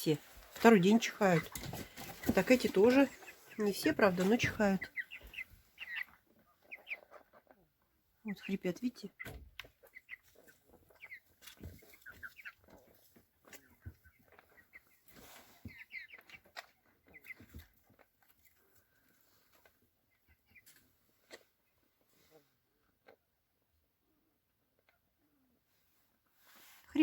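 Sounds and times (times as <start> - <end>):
chicks peeping: 0.1 - 25.6.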